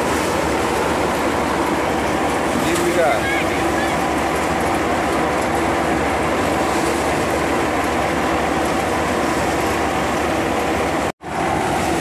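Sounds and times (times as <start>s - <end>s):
threshing machine drone: 0.0s - 12.0s.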